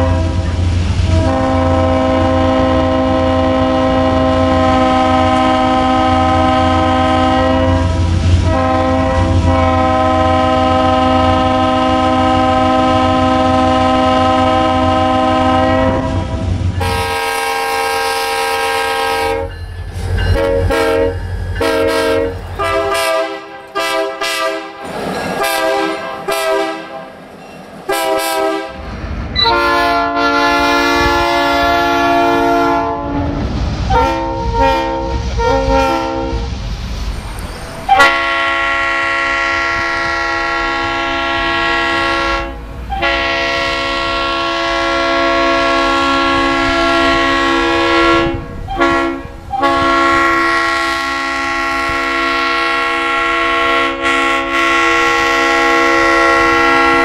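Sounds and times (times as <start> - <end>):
locomotive air horn blasts: 0.0 - 24.8, 25.4 - 27.1, 27.9 - 28.8, 29.4 - 36.5, 37.9 - 57.0
low rumble of passing train: 0.0 - 57.0.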